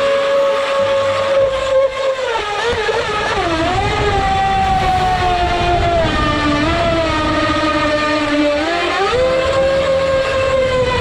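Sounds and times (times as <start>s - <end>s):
model boat motor whining: 0.0s - 11.0s
water rushing under hull: 0.0s - 11.0s.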